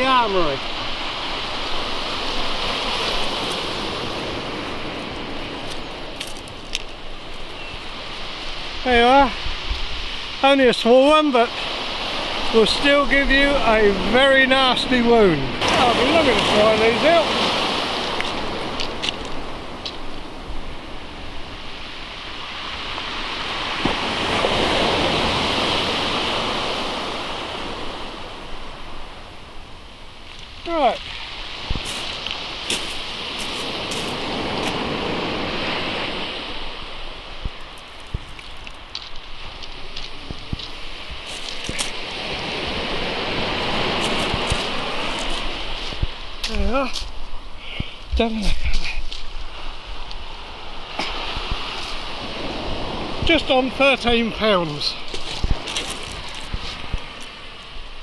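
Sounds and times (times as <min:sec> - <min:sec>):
surf on a shingle beach: 0:00.0 - 0:58.0.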